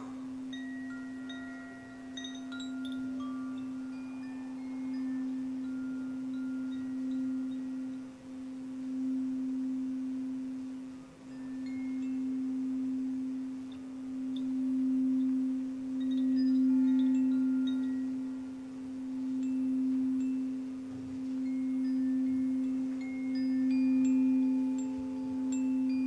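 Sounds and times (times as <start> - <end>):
singing bowl low tone: 0.0 - 26.0.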